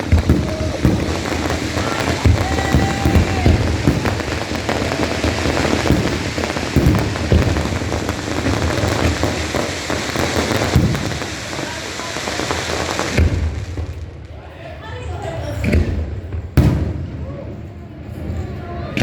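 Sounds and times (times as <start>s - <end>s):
fireworks booms: 0.0s - 14.4s, 15.6s - 17.6s
fireworks crackling: 0.0s - 19.0s.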